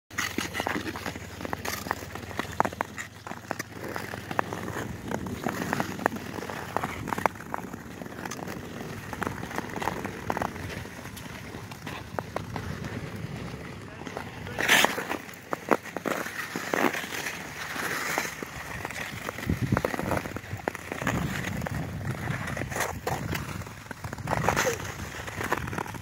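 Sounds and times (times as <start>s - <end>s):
ice skate blades scraping: 0.1s - 26.0s
sharp clicks and crunches: 0.1s - 26.0s.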